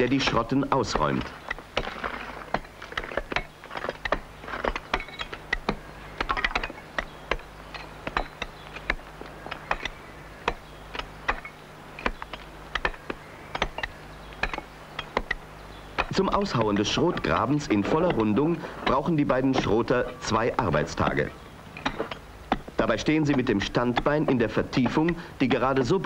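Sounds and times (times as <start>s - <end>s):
hammers striking stone: 0.0s - 26.0s.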